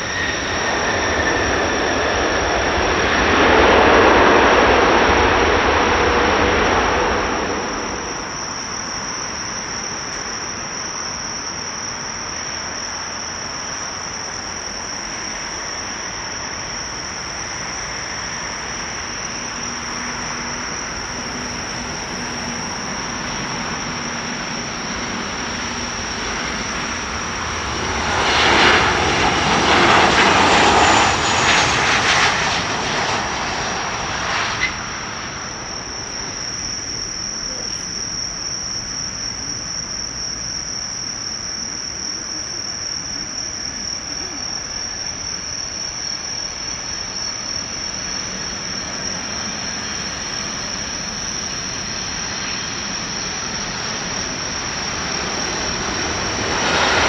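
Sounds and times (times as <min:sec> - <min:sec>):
distant jet engine noise: 0:00.0 - 0:57.0
landing airliner noise: 0:00.0 - 0:57.0
loud uneven jet noise: 0:00.0 - 0:57.0.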